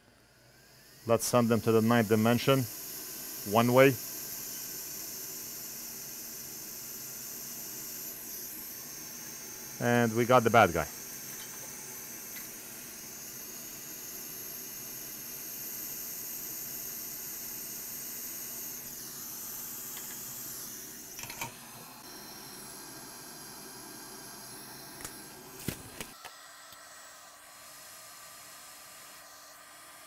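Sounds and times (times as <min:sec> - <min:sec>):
hot-air station airflow hiss: 0:01.0 - 0:30.0.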